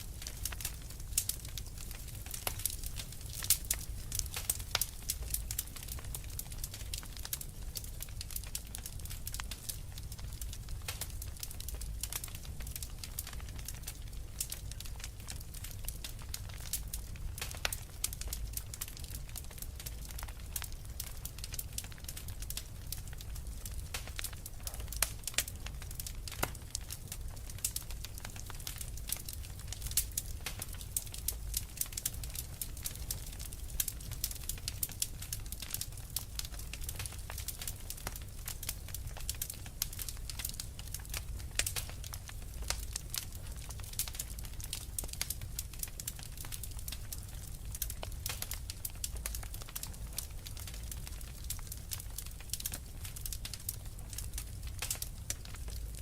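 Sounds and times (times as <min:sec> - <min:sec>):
fire crackling: 0:00.0 - 0:56.0
low fire rumble: 0:00.0 - 0:56.0.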